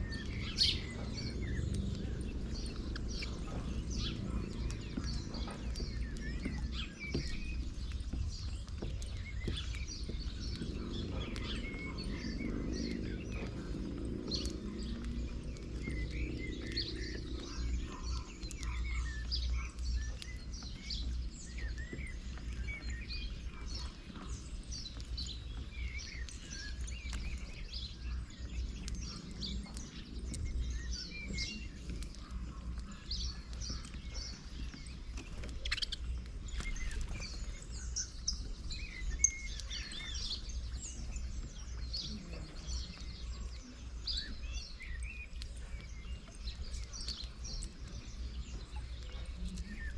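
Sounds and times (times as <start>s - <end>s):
small birds chirping: 0.0s - 49.9s
steady low rumble: 0.0s - 49.9s.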